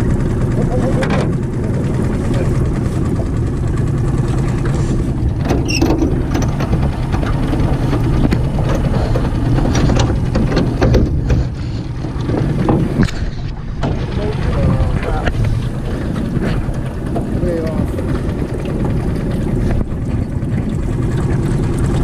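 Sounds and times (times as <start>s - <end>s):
outboard motor running: 0.0s - 22.0s
gear rattling on boat floor: 0.5s - 22.0s.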